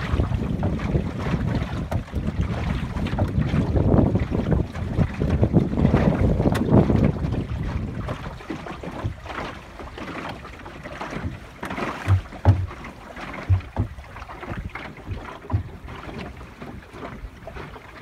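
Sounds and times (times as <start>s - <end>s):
wind on microphone: 0.0s - 10.0s, 12.0s - 18.0s
low thumps of water on hull: 0.0s - 18.0s
water lapping against hull: 0.0s - 18.0s.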